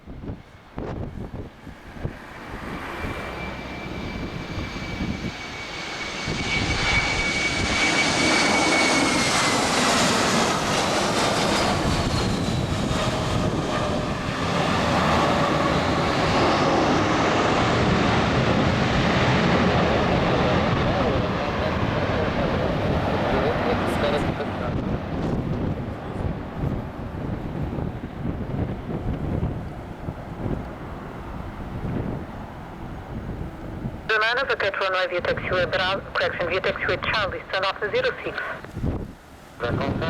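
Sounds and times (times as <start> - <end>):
jet engines rumbling with whine: 0.0 - 40.0.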